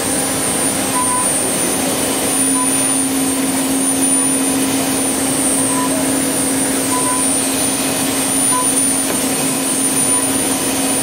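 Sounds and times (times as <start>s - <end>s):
lathe whirring with high whine: 0.0s - 11.0s.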